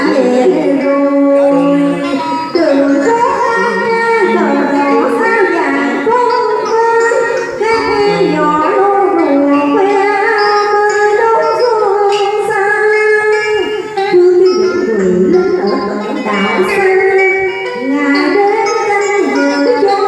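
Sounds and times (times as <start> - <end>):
traditional string instruments melody: 0.0 - 20.0
woman singing: 0.0 - 20.0.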